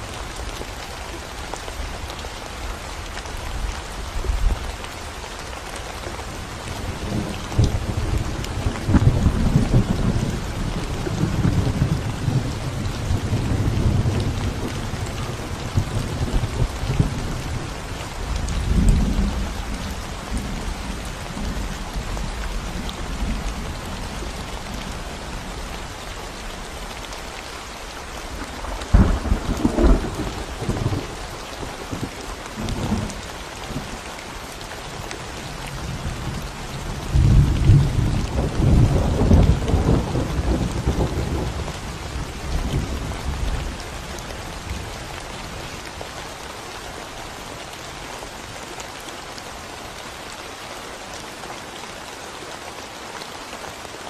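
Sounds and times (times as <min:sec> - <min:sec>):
rain on concrete road: 0:00.0 - 0:54.0.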